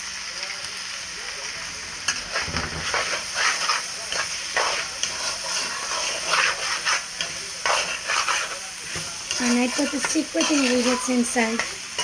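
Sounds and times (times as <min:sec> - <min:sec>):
rice sizzling in hot oil: 0:00.0 - 0:12.0
spoon stirring rice: 0:02.2 - 0:12.0.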